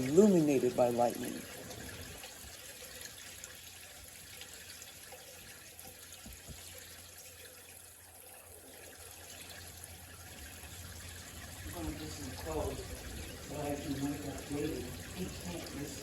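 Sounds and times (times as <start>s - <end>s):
faint rain falling and dripping: 0.0s - 16.0s.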